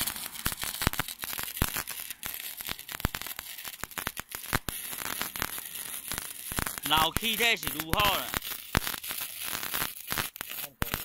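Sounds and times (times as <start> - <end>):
sharp welding pops: 0.0 - 11.0
welding arc crackling: 0.0 - 11.0.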